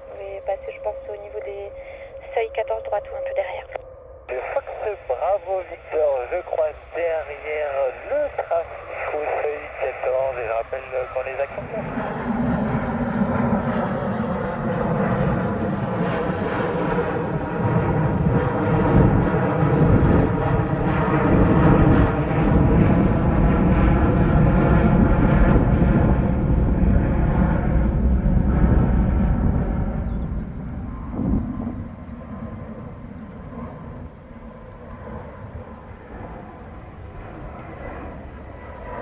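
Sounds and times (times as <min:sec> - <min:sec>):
jet engine roar with fan whine: 0:00.0 - 0:39.0.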